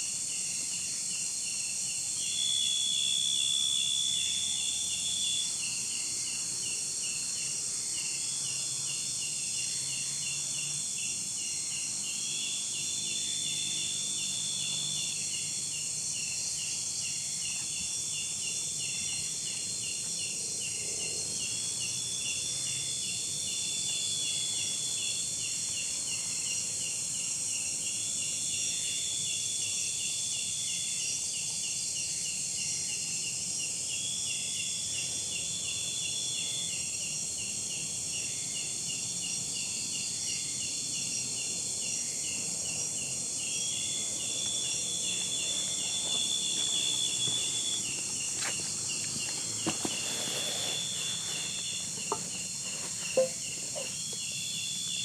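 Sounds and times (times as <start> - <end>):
insect trill: 0.0 - 55.0
insects chirping: 0.0 - 55.0.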